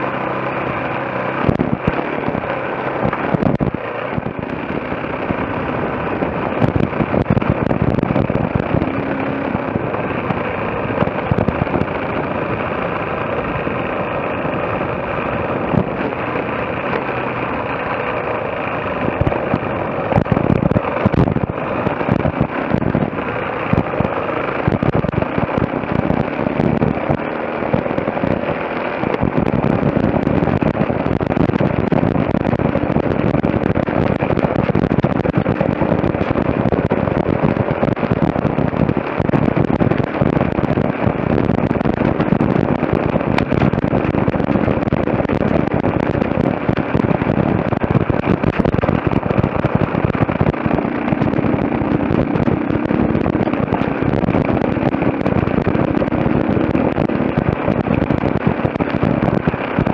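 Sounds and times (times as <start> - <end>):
motorcycle engine: 0.0 - 59.9
rapid crackle and knocking: 0.0 - 59.9.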